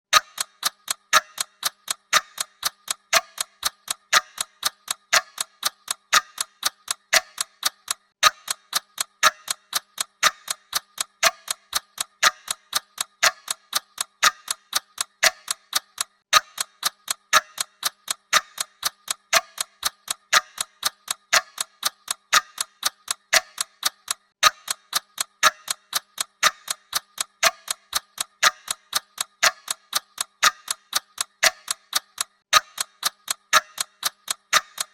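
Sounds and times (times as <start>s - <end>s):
clock ticking: 0.1s - 34.9s.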